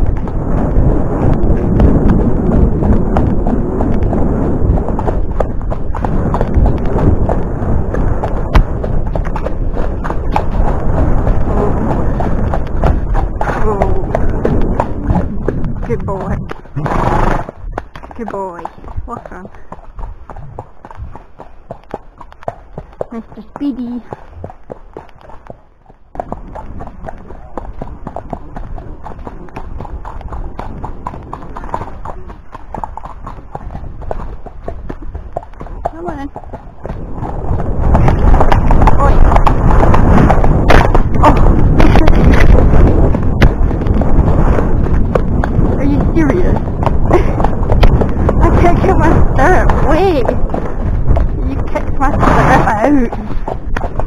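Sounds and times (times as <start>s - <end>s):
horse hoofbeats on dirt: 0.0s - 54.0s
low rumble: 0.0s - 54.0s.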